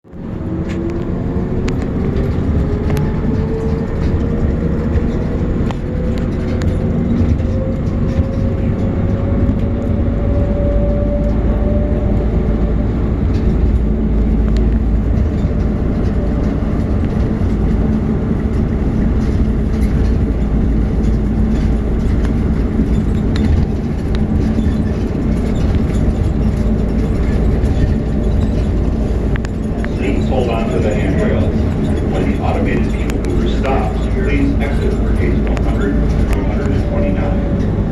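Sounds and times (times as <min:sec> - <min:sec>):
tram rumbling: 0:00.0 - 0:37.9.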